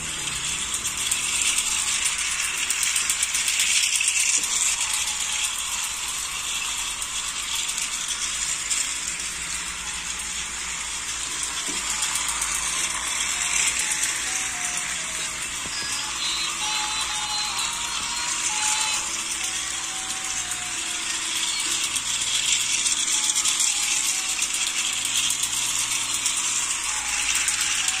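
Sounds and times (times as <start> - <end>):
toy trains clicking whir: 0.0 - 28.0.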